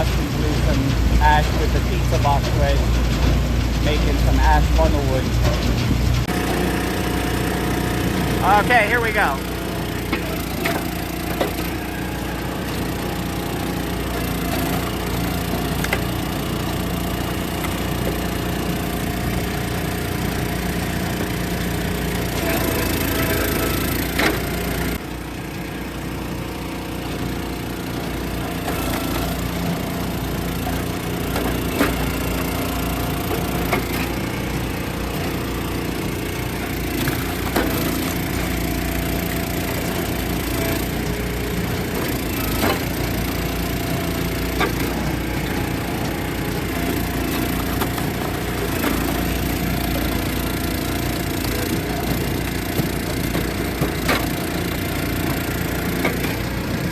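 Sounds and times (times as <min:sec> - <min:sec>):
small gas engine running: 0:00.0 - 0:56.9.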